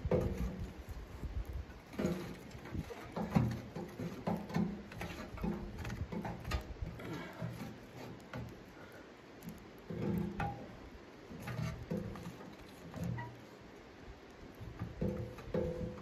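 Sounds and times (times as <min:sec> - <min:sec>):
clicks of wood against metal: 0:00.0 - 0:01.0, 0:01.6 - 0:13.5, 0:14.6 - 0:16.0
stick scraping in wood stove: 0:00.0 - 0:16.0.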